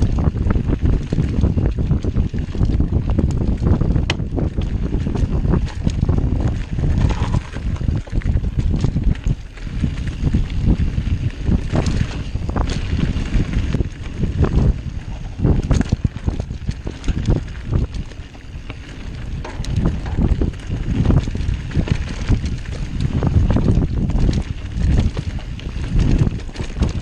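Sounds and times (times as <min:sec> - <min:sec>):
bike rattling over bumps: 0:00.0 - 0:27.0
bike tyre noise: 0:00.0 - 0:27.0
wind rumbling on microphone: 0:00.0 - 0:27.0.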